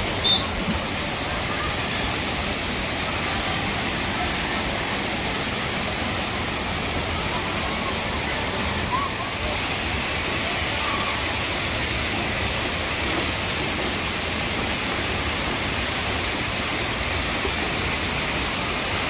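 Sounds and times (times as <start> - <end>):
water falling and splashing: 0.0 - 19.0.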